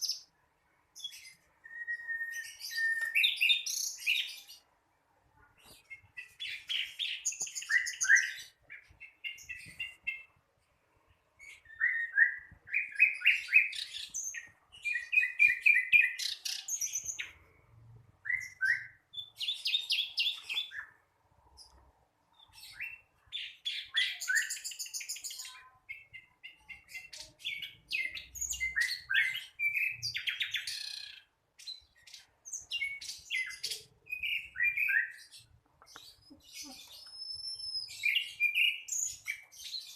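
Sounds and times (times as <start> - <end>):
bird chirping and trilling: 1.0 - 4.7, 5.4 - 10.4, 11.4 - 17.6, 18.2 - 39.9.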